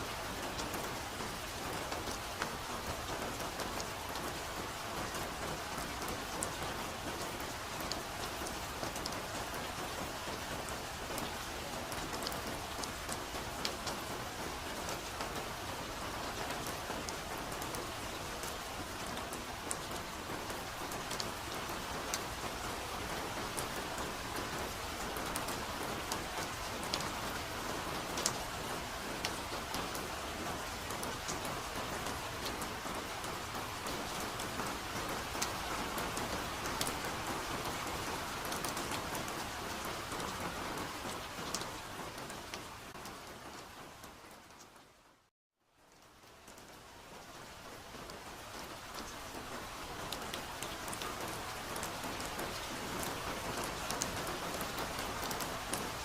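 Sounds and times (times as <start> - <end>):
raindrops ticking on surfaces: 0.0 - 56.0.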